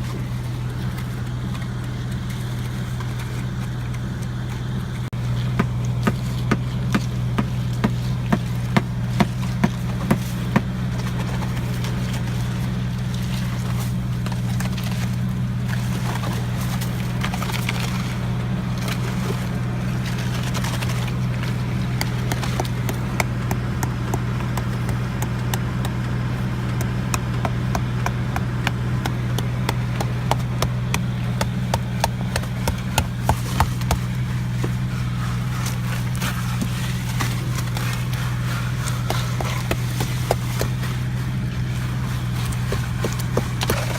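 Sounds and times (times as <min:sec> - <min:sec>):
engine humming: 0:00.0 - 0:43.9.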